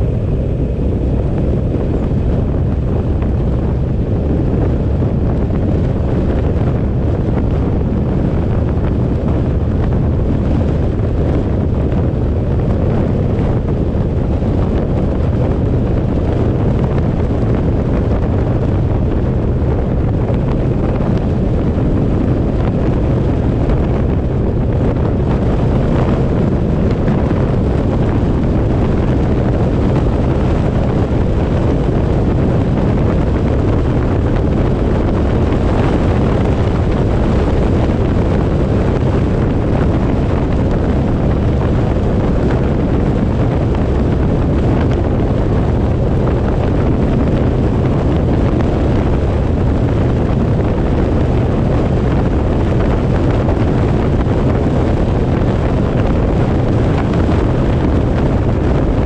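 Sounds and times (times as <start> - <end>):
road and engine noise: 0.0 - 59.0
wind buffeting microphone: 0.0 - 59.0.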